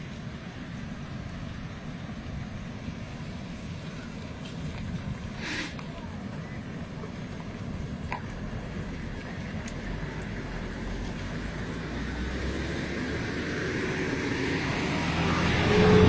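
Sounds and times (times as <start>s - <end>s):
flood water rushing rumble: 0.0s - 16.0s.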